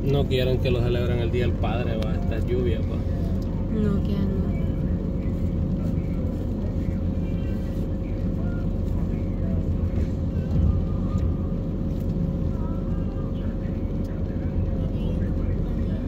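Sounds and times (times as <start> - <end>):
car engine and road rumble: 0.0 - 16.0
thin steady hum: 0.0 - 16.0.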